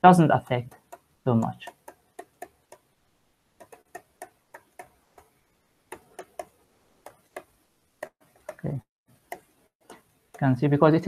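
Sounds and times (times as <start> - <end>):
stylus tapping on tablet: 0.7 - 2.9, 3.6 - 10.4.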